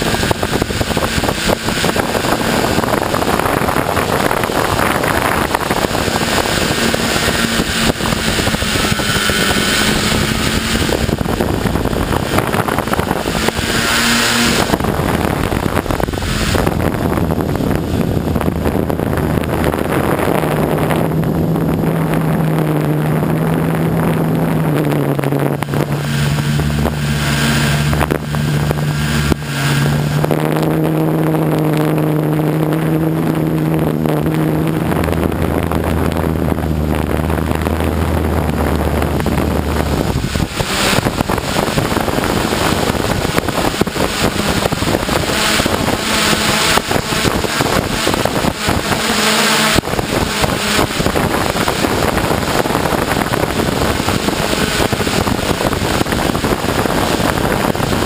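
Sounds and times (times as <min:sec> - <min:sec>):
drone motors whirring: 0:00.0 - 0:58.0
wind on microphone: 0:00.0 - 0:58.0.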